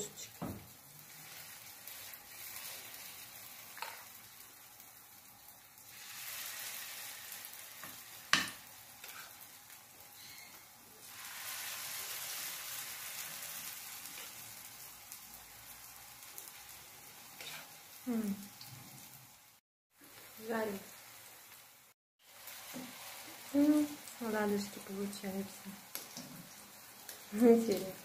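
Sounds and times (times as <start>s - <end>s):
batter sizzling in hot oil: 0.0s - 28.0s.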